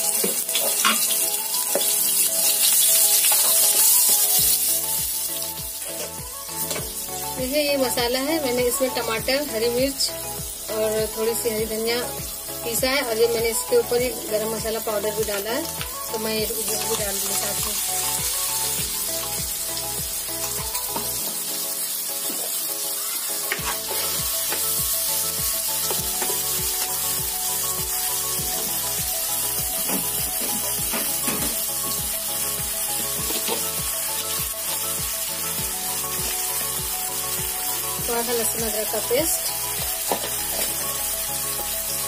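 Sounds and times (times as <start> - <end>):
background music beat: 0.0 - 42.0
masala sizzling in hot oil: 0.0 - 42.0.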